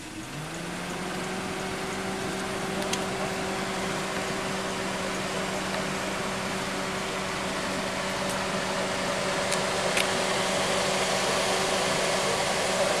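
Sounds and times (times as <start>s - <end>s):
mechanical hum with hiss: 0.0s - 13.0s.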